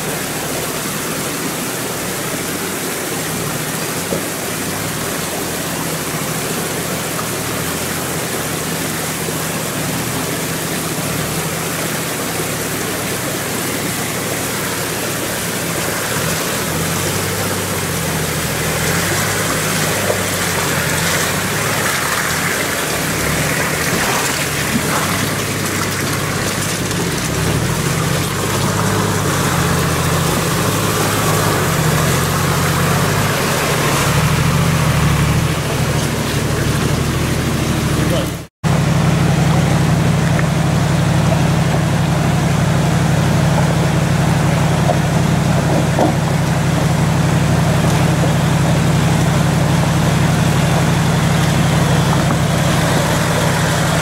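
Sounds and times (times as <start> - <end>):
off-road vehicle engine hum: 0.0 - 54.0
water rushing over rocks: 0.0 - 54.0.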